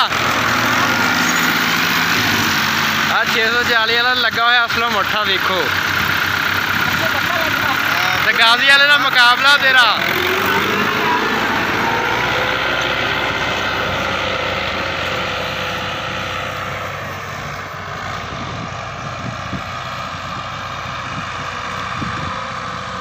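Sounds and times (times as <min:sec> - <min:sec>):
diesel tractor engine droning: 0:00.0 - 0:23.0.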